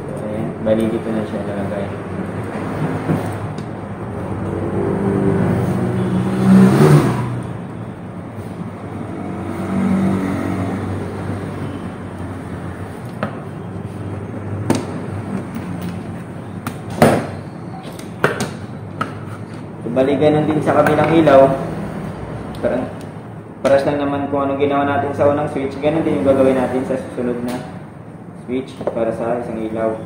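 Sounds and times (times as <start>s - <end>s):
vehicle engines passing: 0.0s - 30.0s.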